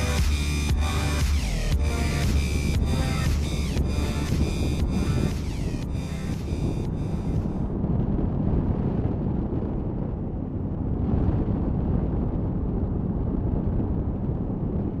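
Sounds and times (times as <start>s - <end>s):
motorcycle engine and road noise: 0.0s - 15.0s
wind rushing on microphone: 0.0s - 15.0s.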